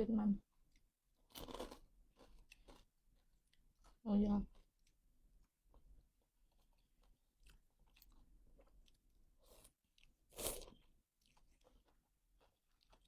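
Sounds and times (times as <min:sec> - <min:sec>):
person chewing crunchy food: 0:00.7 - 0:13.0.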